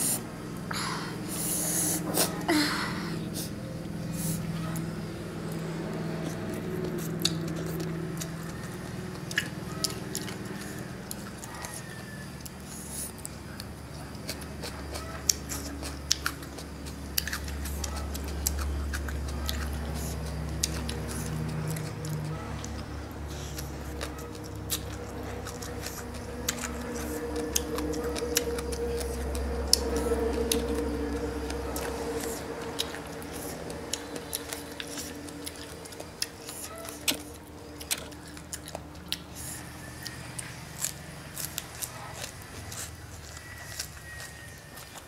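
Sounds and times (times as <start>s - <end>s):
wet chewing and slurping: 0.0s - 2.5s, 3.3s - 45.0s
steady low hum: 0.0s - 45.0s.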